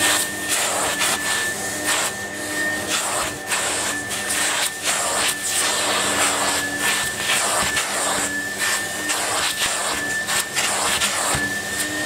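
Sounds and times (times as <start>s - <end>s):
vacuum cleaner whining: 0.0s - 12.0s.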